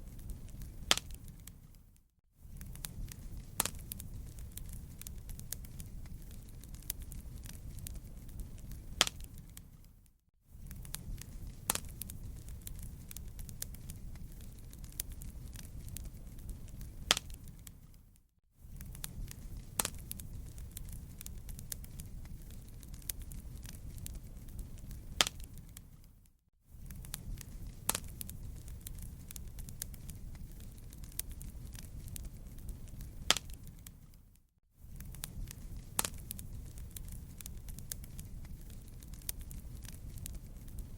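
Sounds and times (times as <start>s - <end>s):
wood fire crackling: 0.0s - 40.9s
sharp pops of fire: 0.1s - 1.8s, 2.5s - 9.8s, 10.6s - 18.0s, 18.7s - 26.0s, 26.8s - 34.2s, 34.9s - 40.9s.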